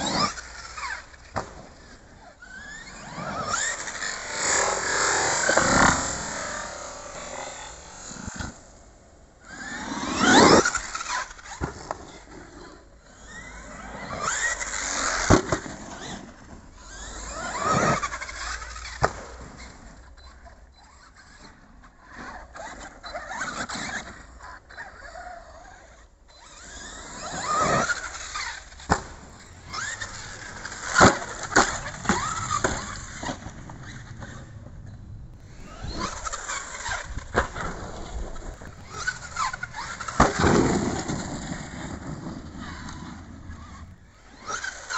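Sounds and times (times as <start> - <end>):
electric motor whining: 0.0 - 8.8, 9.4 - 19.8, 22.3 - 44.9.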